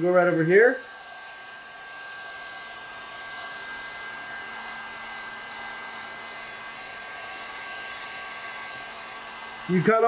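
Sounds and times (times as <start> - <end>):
heat gun blowing air: 0.0 - 10.0.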